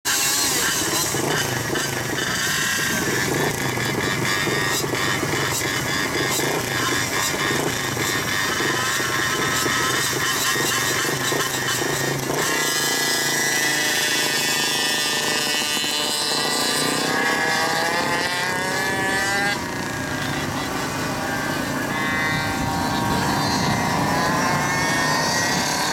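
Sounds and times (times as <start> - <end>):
small two-stroke engines revving: 0.1 - 25.9.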